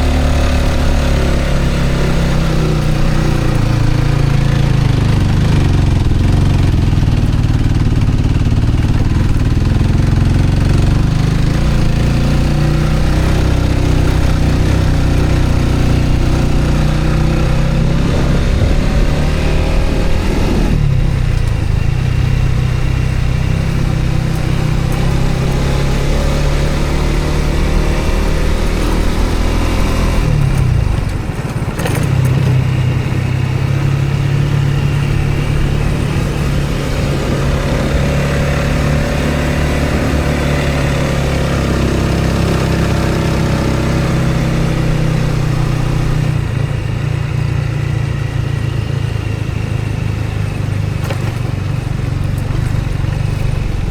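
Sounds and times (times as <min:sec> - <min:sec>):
road noise: 0:00.0 - 0:53.9
vehicle engine running: 0:00.0 - 0:53.9.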